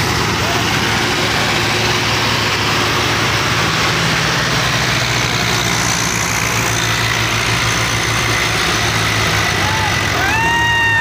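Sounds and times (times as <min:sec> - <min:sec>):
diesel tractor engines droning: 0:00.0 - 0:11.0.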